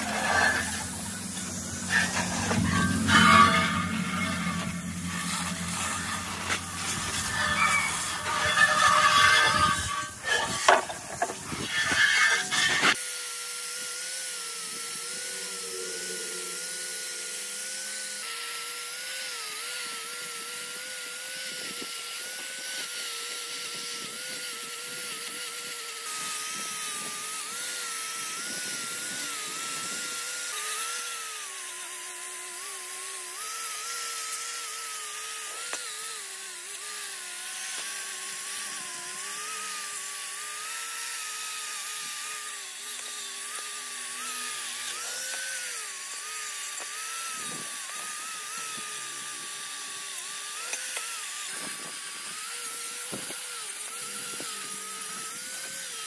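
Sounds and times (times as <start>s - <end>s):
angle grinder on metal: 0.0s - 56.0s.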